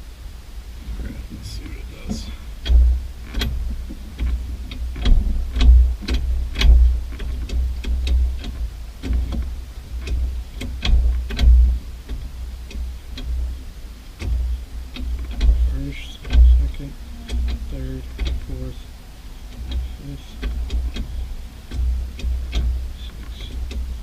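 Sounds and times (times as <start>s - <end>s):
dull low thumps: 0.0s - 24.0s.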